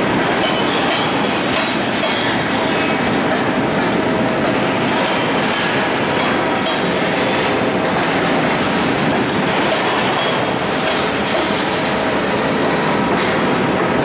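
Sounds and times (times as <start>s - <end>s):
freight train wheels rolling: 0.0s - 14.0s.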